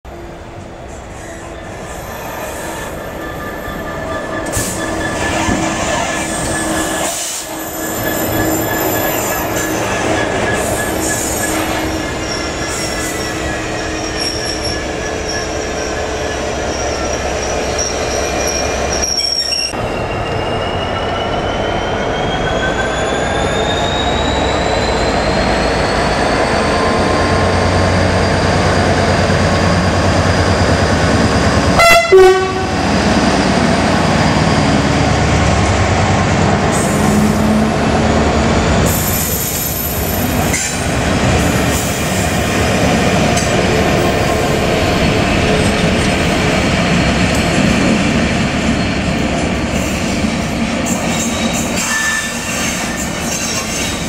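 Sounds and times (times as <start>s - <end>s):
diesel locomotive engine rumble: 0.1s - 54.0s
locomotive engine whine: 0.3s - 50.9s
high-pitched brake squealing: 1.1s - 31.5s, 38.8s - 47.5s, 48.5s - 54.0s.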